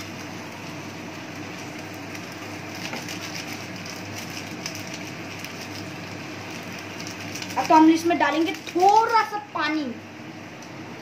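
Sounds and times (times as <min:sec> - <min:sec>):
food sizzling in a pan: 0:00.0 - 0:09.2.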